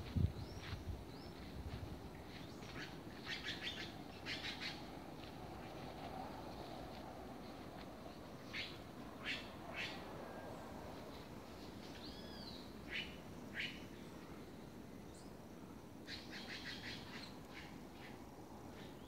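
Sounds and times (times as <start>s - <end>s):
forest birds calling: 0.0s - 5.0s, 7.4s - 10.7s, 11.6s - 19.0s
low background hiss: 0.0s - 19.0s.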